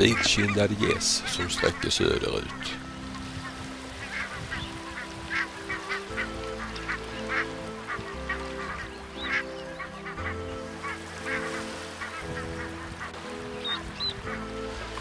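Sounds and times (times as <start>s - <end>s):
geese calling in flight: 0.0s - 15.0s.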